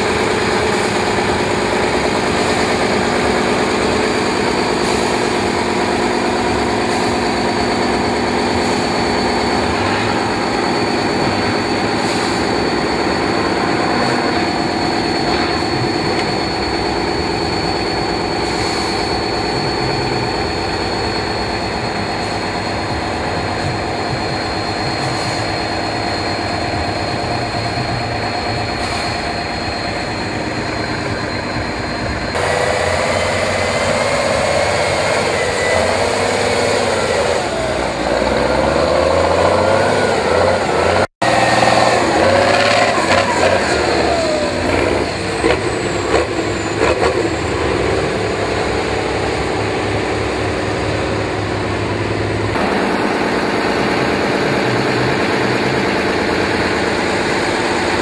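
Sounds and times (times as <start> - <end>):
diesel truck engine running: 0.0 - 58.0
thin high whine: 0.0 - 58.0.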